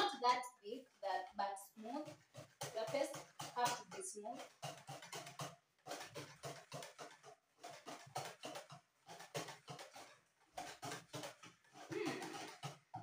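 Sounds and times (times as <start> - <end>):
hand whisk beating batter: 0.0 - 13.0.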